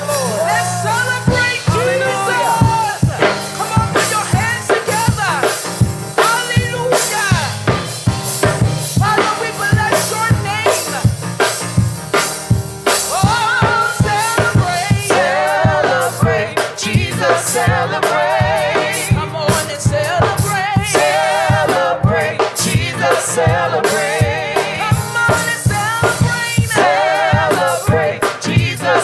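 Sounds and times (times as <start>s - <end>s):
band playing: 0.0s - 29.0s
drum kit groove: 0.0s - 29.0s
people singing: 0.0s - 29.0s.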